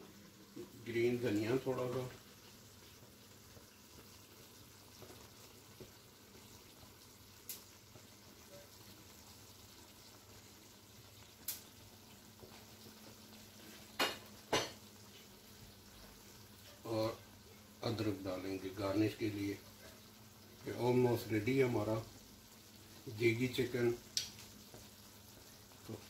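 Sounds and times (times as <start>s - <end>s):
curry sizzling in a pan: 0.0s - 26.0s.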